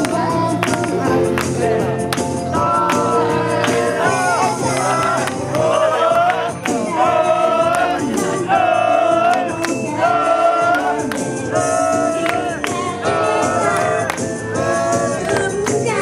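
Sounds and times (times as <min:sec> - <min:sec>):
dance beat: 0:00.0 - 0:16.0
female voices singing in unison: 0:00.0 - 0:16.0.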